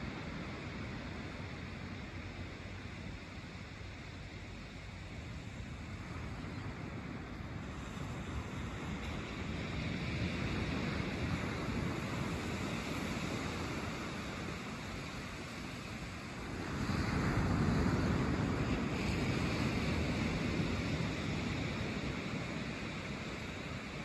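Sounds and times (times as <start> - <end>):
small waves breaking on beach: 0.0 - 24.0.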